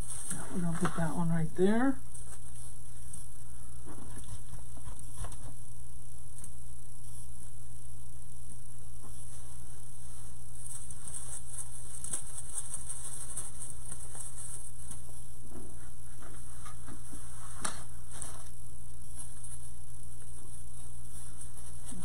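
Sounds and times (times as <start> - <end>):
artificial greenery rustling: 0.0 - 5.3, 8.8 - 22.0
low electrical hum: 0.0 - 22.0.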